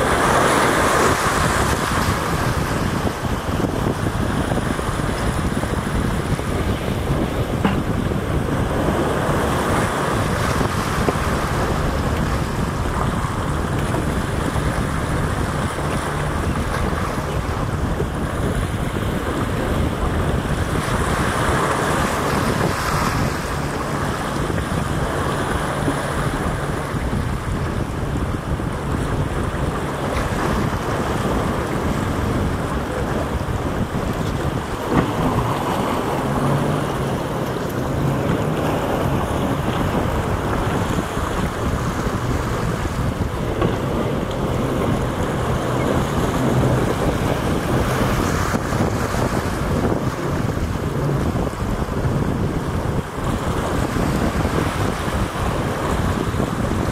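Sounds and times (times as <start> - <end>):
boat engine humming: 0.0 - 56.9
water rushing and splashing: 0.0 - 56.9
wind buffeting microphone: 0.0 - 56.9.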